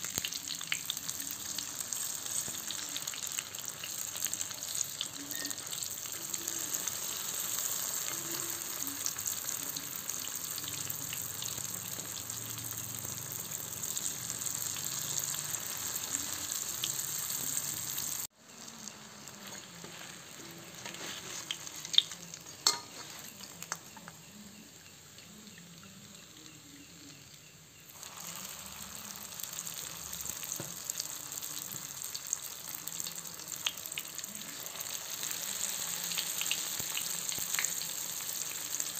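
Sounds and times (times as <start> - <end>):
spring rolls sizzling in oil: 0.0 - 38.9.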